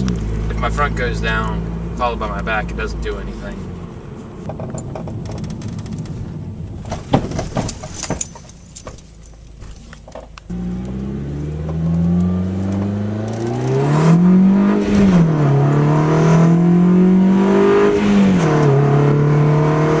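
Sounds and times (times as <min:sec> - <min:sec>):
car engine accelerating: 0:00.0 - 0:09.6, 0:10.4 - 0:20.0.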